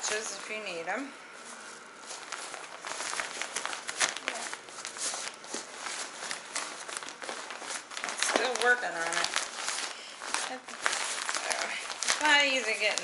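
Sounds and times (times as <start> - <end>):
fabric rustling and crinkling: 0.0 - 13.0
scuffs and crackles: 1.3 - 13.0.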